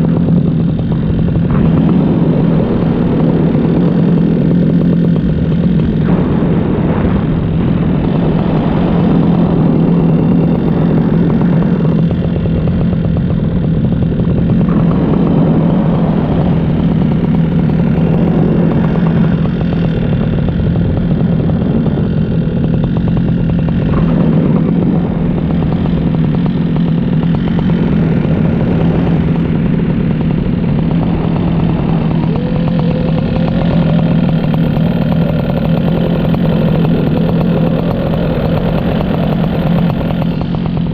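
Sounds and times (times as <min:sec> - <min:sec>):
paramotor engine drone: 0:00.0 - 0:40.9.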